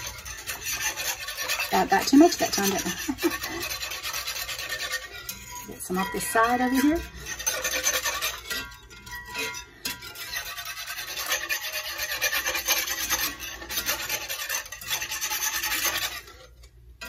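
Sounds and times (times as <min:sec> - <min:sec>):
wire whisk scraping a metal skillet: 0:00.0 - 0:17.0.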